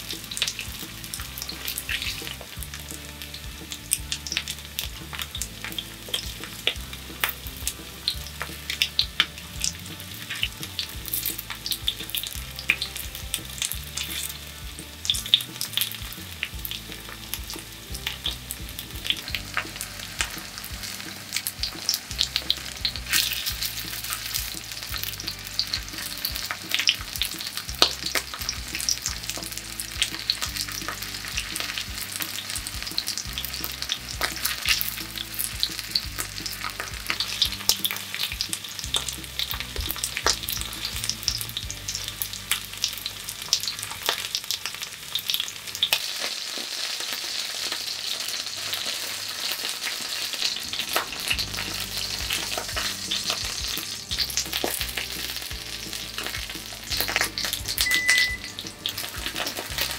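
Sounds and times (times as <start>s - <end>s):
oil sizzling and crackling: 0.0s - 59.9s.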